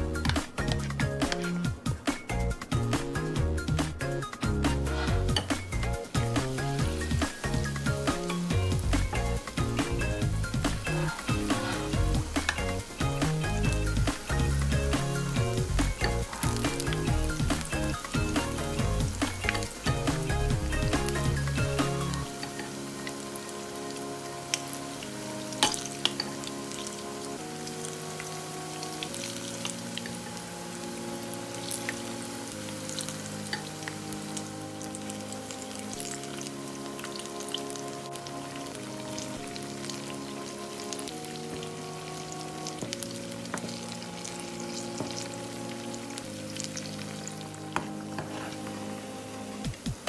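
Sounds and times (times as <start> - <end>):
oil sizzling with pops: 0.0 - 50.0
soft background music: 0.0 - 50.0.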